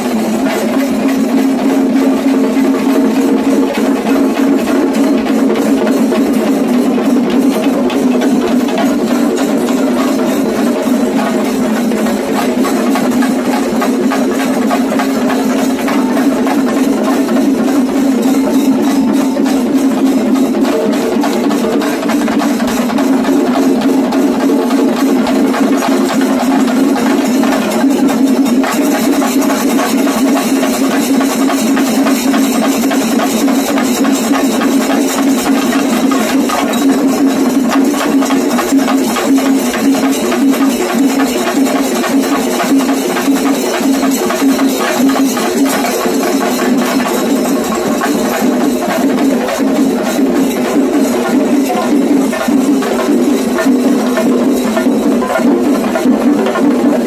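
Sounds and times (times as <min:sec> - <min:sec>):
fast percussion ensemble drumming: 0:00.0 - 0:57.0.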